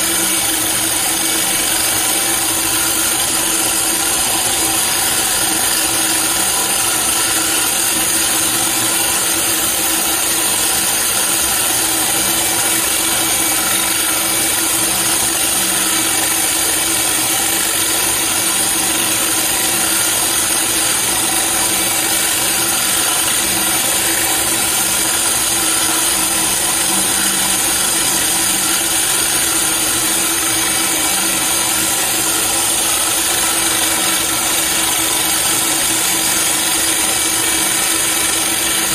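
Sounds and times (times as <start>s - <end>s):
core drill grinding into stone: 0.0s - 38.9s.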